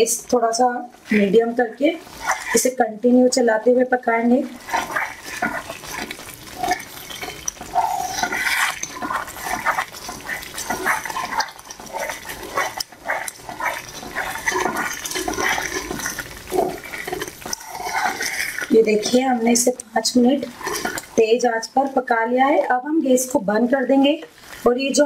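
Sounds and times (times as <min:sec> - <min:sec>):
wooden spatula scraping a pan: 0:00.0 - 0:25.0.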